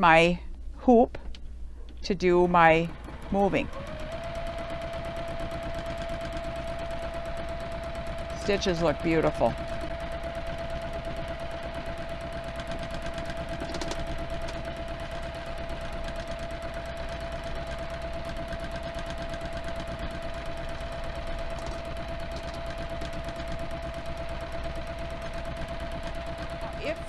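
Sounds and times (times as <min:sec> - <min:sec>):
sewing machine stitching: 0:02.6 - 0:27.0.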